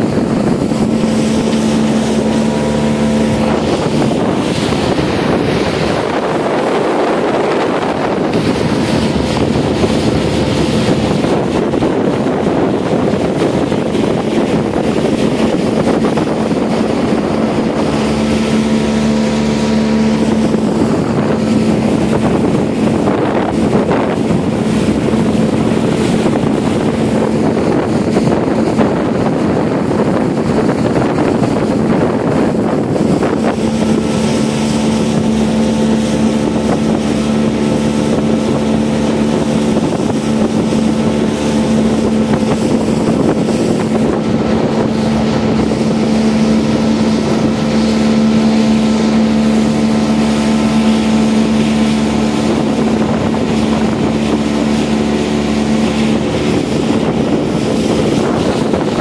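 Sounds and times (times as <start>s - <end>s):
motorboat engine hum: 0.0s - 59.0s
water rushing along hull: 0.0s - 59.0s
wind on microphone: 0.0s - 59.0s.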